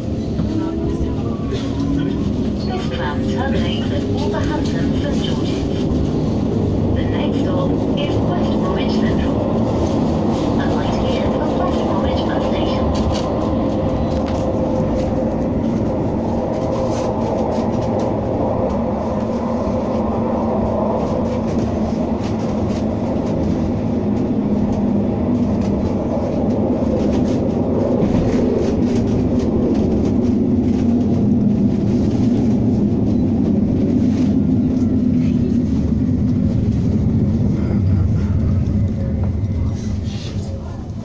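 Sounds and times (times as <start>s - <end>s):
tram interior rumble and hum: 0.0s - 41.0s.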